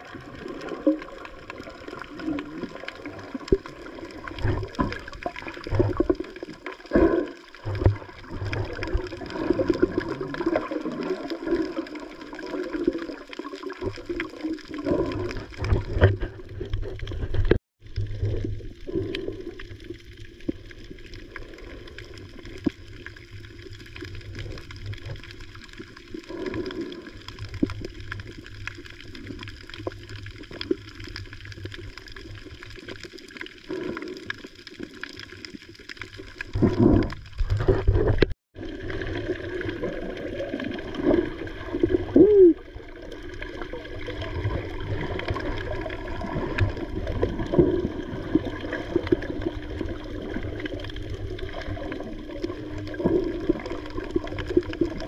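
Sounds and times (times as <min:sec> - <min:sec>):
underwater gurgling and sloshing: 0:00.0 - 0:55.0.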